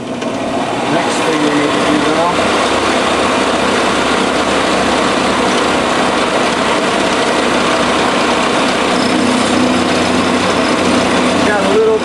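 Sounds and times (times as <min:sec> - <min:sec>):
milling machine running: 0:00.0 - 0:12.0.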